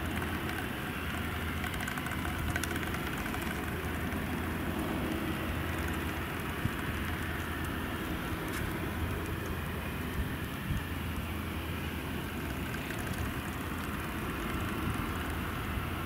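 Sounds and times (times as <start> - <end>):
distant jet engine rumble: 0.0 - 16.0.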